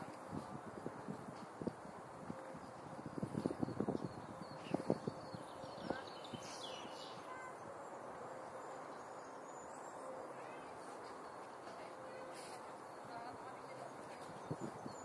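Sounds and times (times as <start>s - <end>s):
birds chirping: 2.3s - 15.0s.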